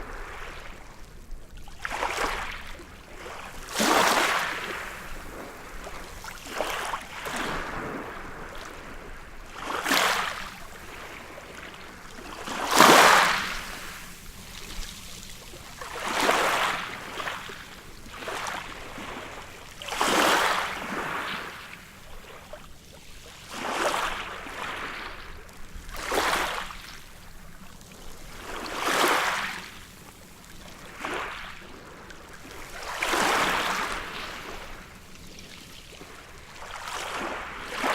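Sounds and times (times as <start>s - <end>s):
small waves breaking on beach: 0.0s - 37.9s.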